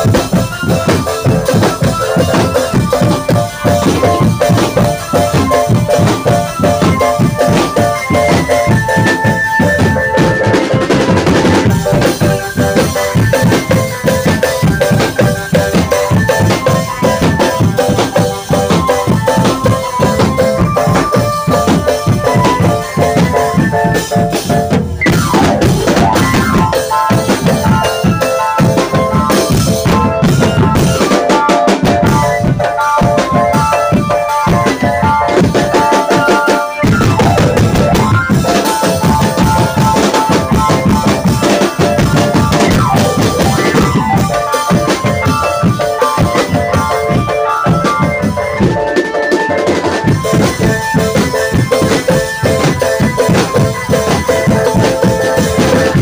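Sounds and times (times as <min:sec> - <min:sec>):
drum band playing: 0:00.0 - 0:56.0
melody of held notes: 0:00.0 - 0:56.0.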